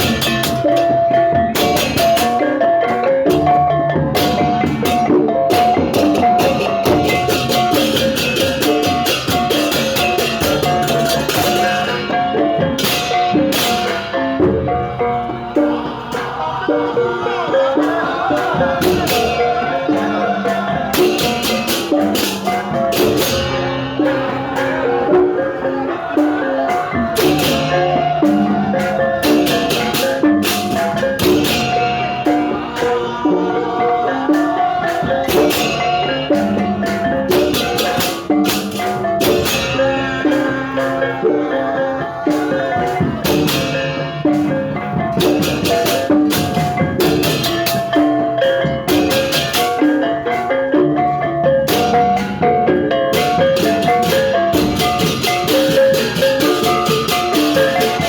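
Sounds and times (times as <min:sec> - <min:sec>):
tuned percussion and drums music: 0:00.0 - 0:58.0.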